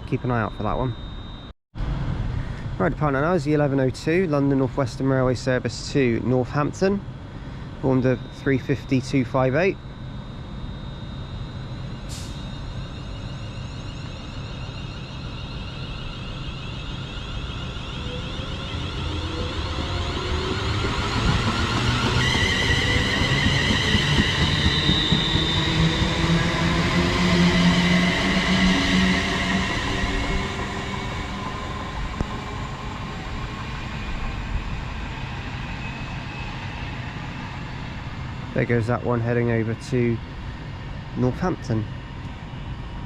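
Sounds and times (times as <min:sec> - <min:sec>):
electric train traction motor whine: 0:05.3 - 0:43.0.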